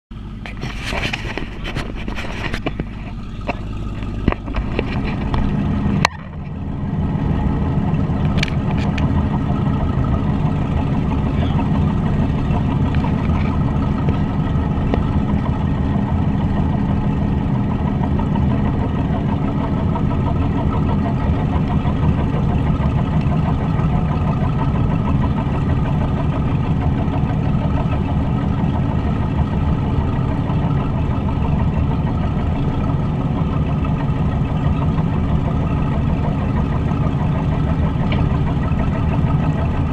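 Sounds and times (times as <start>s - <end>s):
boat engine drone: 0.1s - 39.9s
water rushing along hull: 0.1s - 39.9s.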